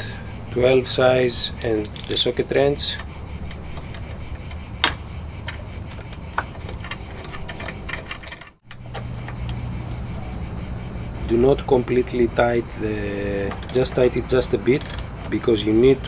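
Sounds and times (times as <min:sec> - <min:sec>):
insects chirping: 0:00.0 - 0:16.0
ratchet wrench clicking: 0:00.6 - 0:09.8, 0:12.3 - 0:16.0.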